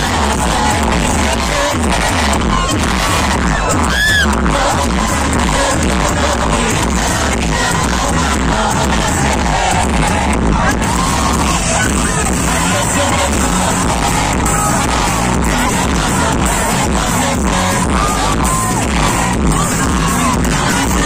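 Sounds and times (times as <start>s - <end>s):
audience singing along: 0.0s - 3.7s, 4.4s - 21.0s
live concert music over loudspeakers: 0.0s - 21.0s.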